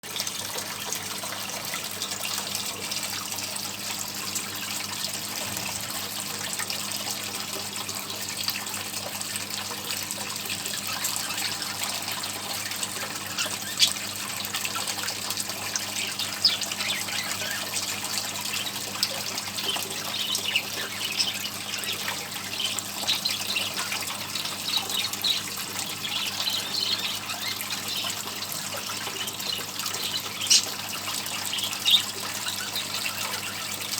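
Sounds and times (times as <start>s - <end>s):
fountain water splashing: 0.0s - 33.9s.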